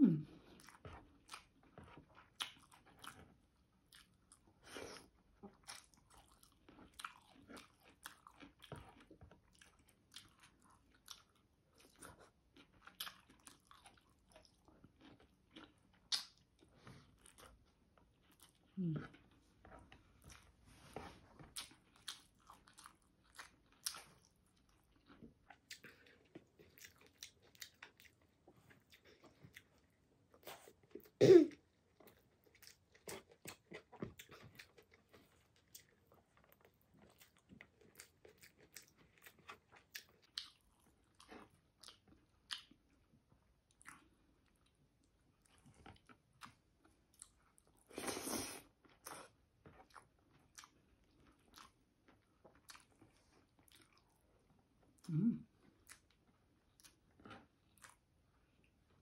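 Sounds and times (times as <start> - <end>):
person chewing food: 0.3 - 59.0.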